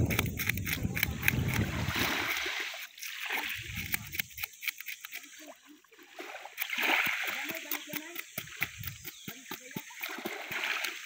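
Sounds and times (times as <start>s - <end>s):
knife scraping fish scales: 0.0s - 5.5s, 6.4s - 11.0s.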